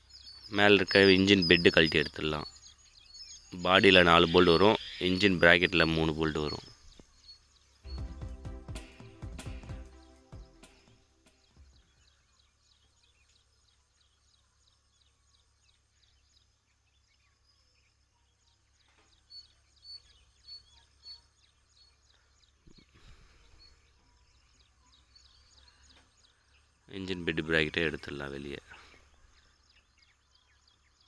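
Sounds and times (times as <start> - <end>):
faint bird chirps: 0.0 - 31.0.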